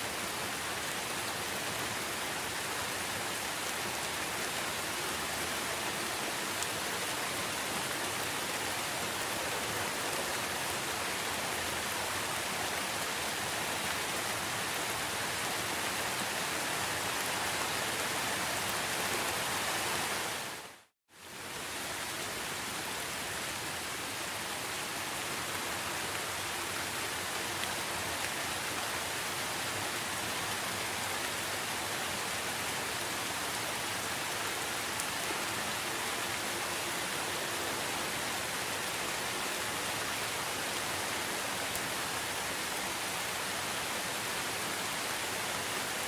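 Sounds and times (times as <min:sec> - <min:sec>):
dense rainfall: 0:00.0 - 0:46.0.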